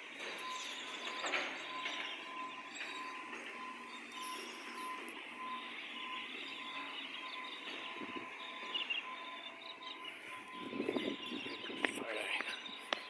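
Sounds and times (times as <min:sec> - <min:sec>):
garbage truck engine running: 0:00.0 - 0:12.0
reversing alarm beeping: 0:00.0 - 0:13.0.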